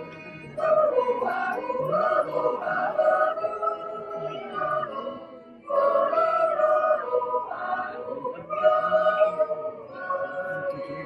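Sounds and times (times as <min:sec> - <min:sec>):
choir yodeling a cappella: 0:00.0 - 0:11.0.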